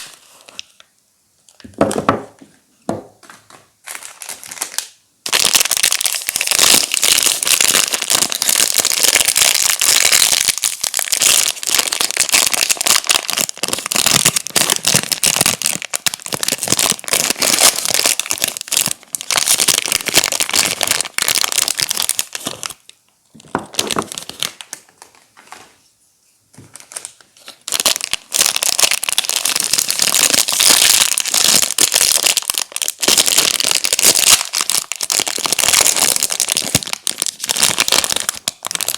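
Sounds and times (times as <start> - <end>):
packaging crinkling and crackling: 3.2 - 25.8, 26.6 - 38.9.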